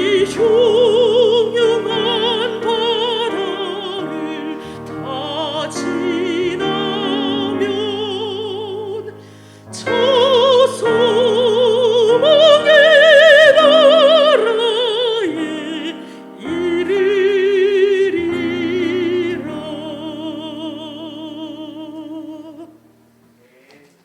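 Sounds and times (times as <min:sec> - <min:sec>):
woman singing a hymn: 0:00.0 - 0:22.9.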